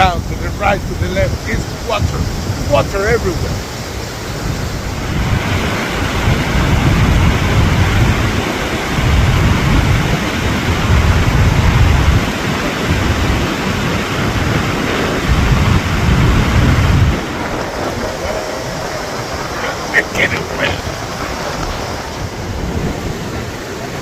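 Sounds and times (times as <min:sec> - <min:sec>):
waterfall rushing: 0:00.0 - 0:24.0
wind buffeting microphone: 0:00.0 - 0:24.0.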